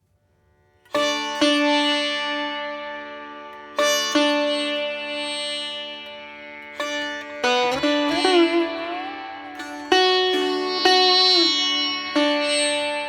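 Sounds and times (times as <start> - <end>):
plucked string instrument: 0.9 - 13.0.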